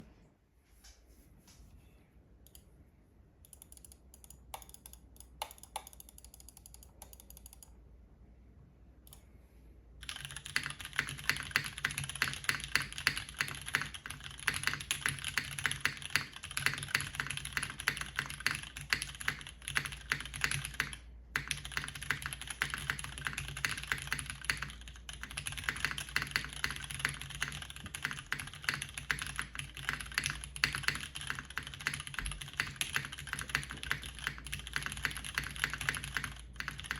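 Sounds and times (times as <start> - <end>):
mechanical keyboard typing: 3.5 - 7.7, 10.0 - 36.9.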